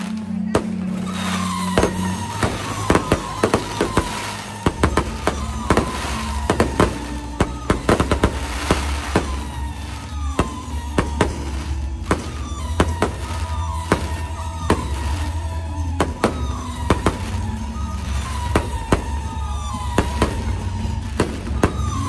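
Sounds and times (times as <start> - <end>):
fireworks bangs and cracks: 0.0 - 22.0
music with steady bass: 0.0 - 22.0
tone sliding down in pitch: 0.0 - 22.0.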